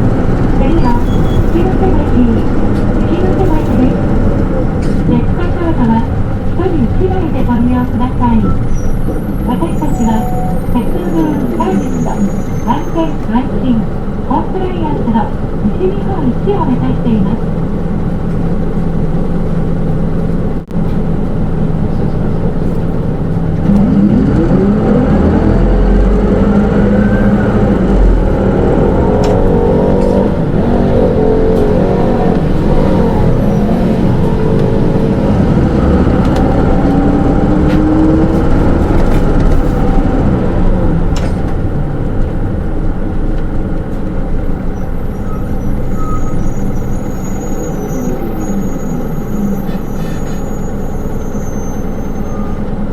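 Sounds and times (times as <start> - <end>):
bus diesel engine: 0.0 - 52.9
drivetrain whine: 0.0 - 52.9.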